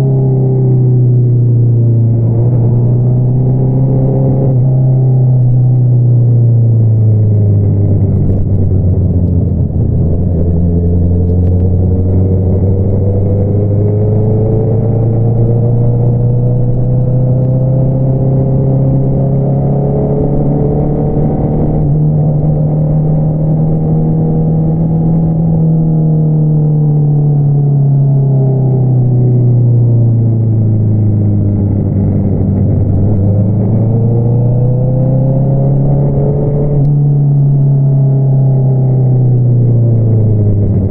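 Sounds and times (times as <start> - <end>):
motorcycle engine revving: 0.0 - 6.4, 7.2 - 28.1, 28.8 - 40.9.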